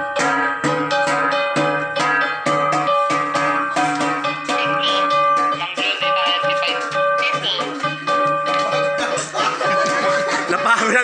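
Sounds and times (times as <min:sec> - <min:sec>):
dance music with ringing notes: 0:00.0 - 0:11.0.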